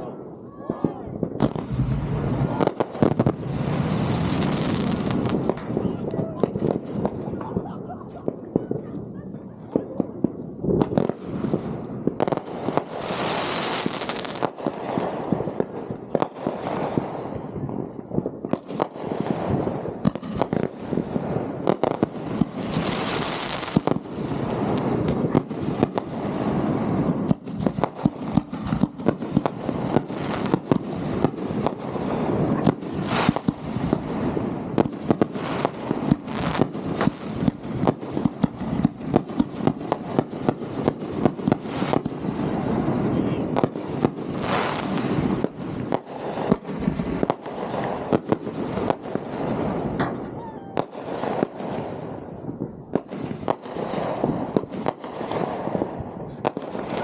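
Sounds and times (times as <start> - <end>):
fireworks reports and crackling: 0.0 - 57.0.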